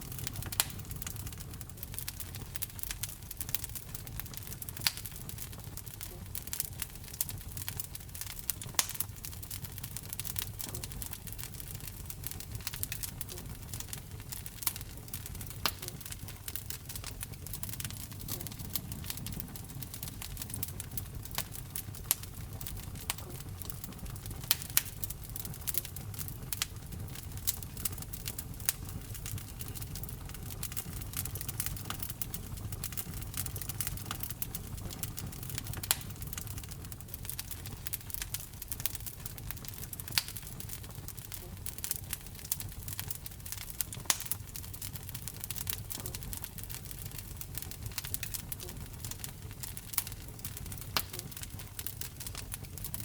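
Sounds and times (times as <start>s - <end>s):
low rumble of flames: 0.0s - 53.0s
wood fire crackling and popping: 0.0s - 53.0s.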